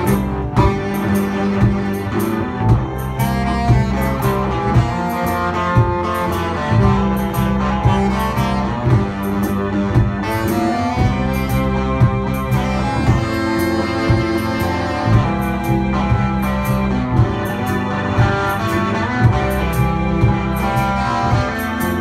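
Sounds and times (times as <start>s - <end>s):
drums: 0.0s - 22.0s
electric guitar: 0.0s - 22.0s
keyboard: 0.0s - 22.0s
saxophone melody: 0.0s - 22.0s.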